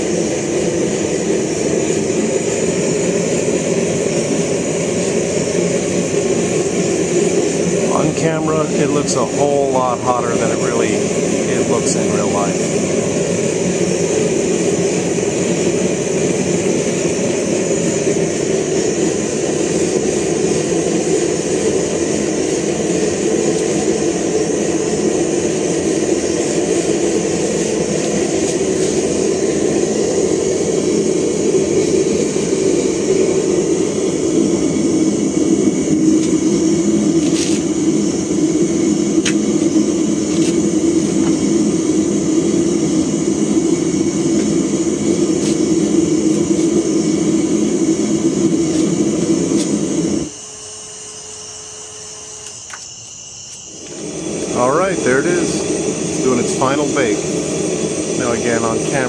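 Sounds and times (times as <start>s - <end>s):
gas forge burner rushing: 0.0s - 59.0s.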